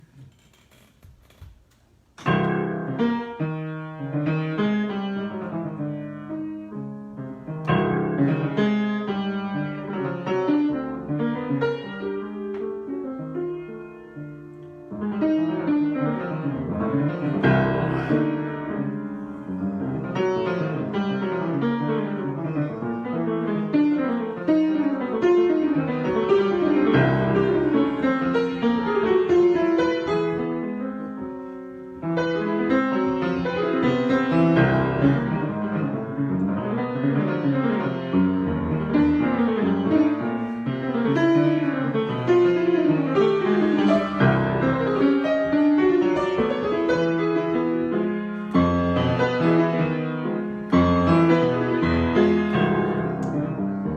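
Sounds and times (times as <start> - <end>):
piano improvisation: 0.0 - 53.9.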